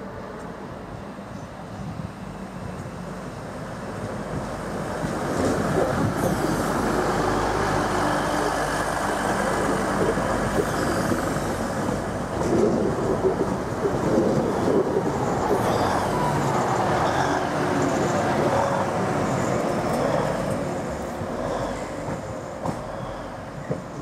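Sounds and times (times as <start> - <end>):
train moving: 0.0 - 24.0.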